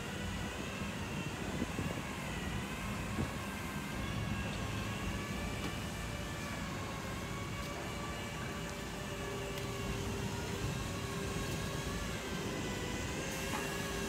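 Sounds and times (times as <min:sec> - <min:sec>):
faint whine of held tones: 0:00.0 - 0:14.0
steady mechanical hum: 0:00.0 - 0:14.0.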